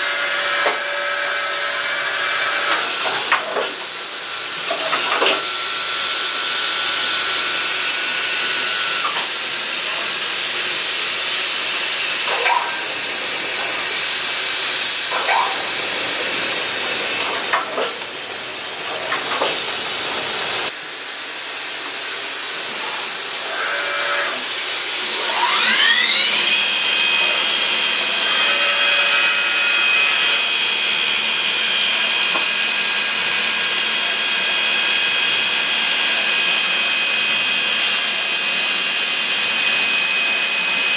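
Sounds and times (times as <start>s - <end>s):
mill spindle whining: 0.0s - 40.9s.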